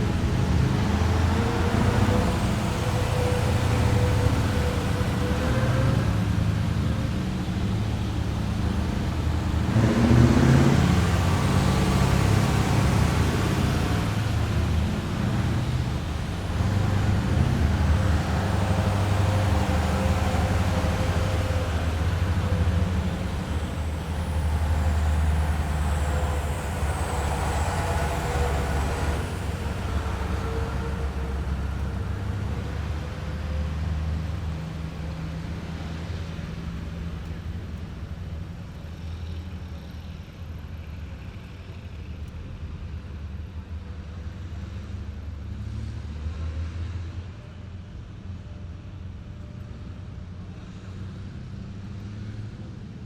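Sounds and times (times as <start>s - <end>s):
heavy vehicles engines rumbling: 0.0s - 53.0s.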